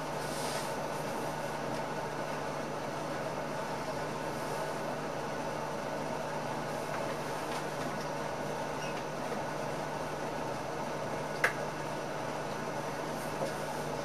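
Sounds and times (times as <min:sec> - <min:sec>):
train cab rushing hum: 0:00.0 - 0:14.0.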